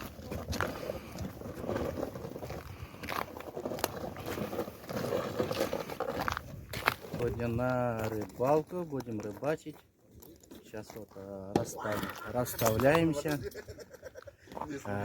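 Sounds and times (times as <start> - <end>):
footsteps crunching on snowy ice: 0.0 - 13.2.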